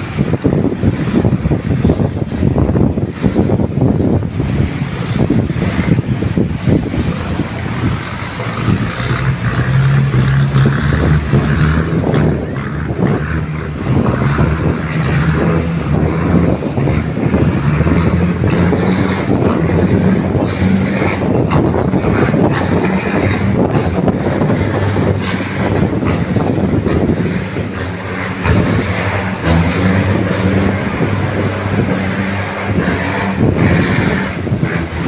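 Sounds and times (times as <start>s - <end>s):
tugboat engine humming: 0.0s - 35.0s
wind buffeting microphone: 0.0s - 35.0s.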